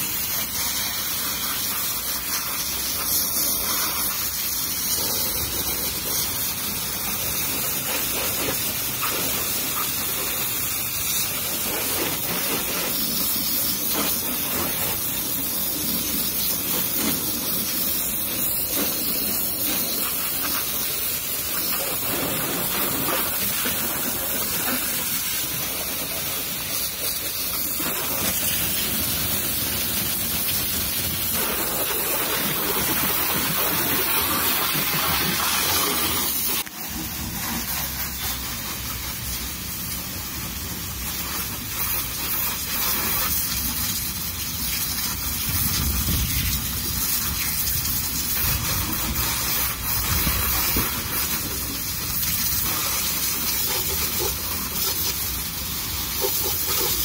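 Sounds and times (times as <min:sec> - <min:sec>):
pressure washer spraying water: 0:00.0 - 0:57.0
water spattering off car: 0:05.5 - 0:57.0.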